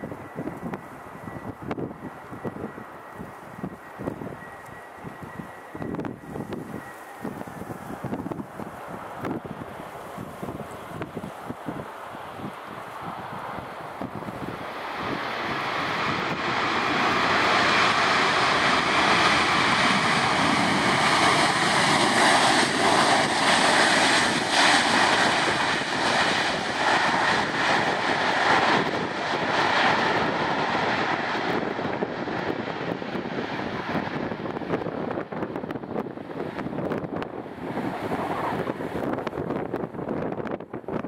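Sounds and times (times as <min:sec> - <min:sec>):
jet engines reverse thrust roar: 0:00.0 - 0:41.0
steady engine whine: 0:00.0 - 0:41.0.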